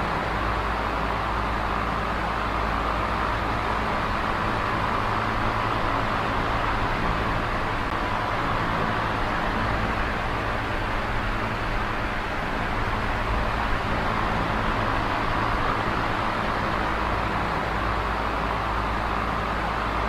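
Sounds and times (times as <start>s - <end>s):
electric fan whirring: 0.0s - 20.0s.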